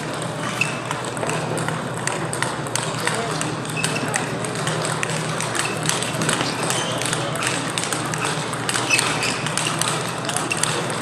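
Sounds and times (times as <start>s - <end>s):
table tennis balls clicking: 0.0s - 11.0s.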